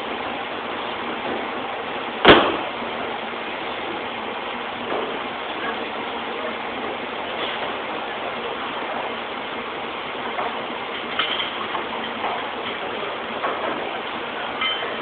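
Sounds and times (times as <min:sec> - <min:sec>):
factory machinery noise: 0:00.0 - 0:15.0.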